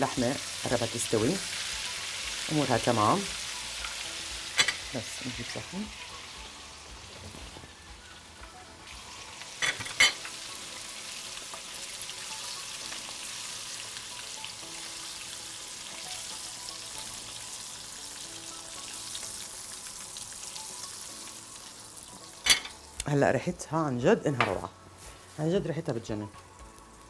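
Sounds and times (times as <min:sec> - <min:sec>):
meat sizzling in frying pan: 0:00.0 - 0:23.2, 0:24.9 - 0:27.0.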